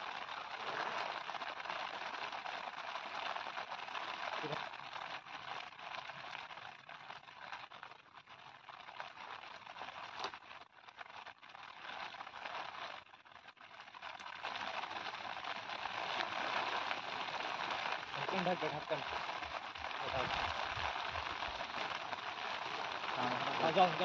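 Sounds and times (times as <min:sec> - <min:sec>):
rain hissing on grass: 0:00.0 - 0:24.0.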